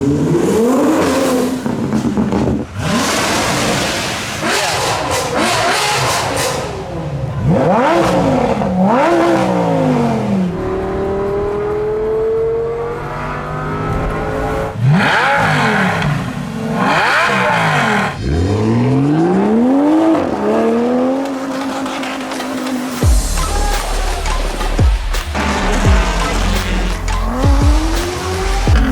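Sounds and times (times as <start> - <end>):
supercar engines revving: 0.0 - 28.9.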